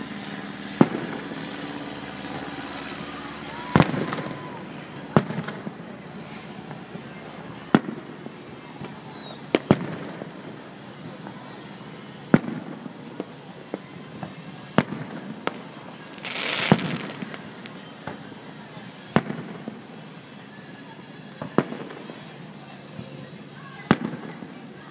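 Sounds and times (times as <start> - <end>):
faint firework pops and crackles: 0.0 - 24.9.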